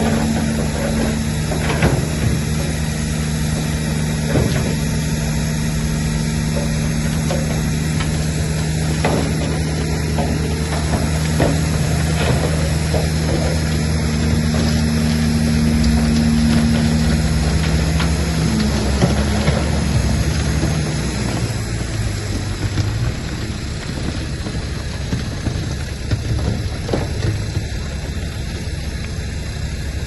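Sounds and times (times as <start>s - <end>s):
bulldozer diesel engine running: 0.0s - 30.0s
clanks of tracks and rock: 0.0s - 30.0s.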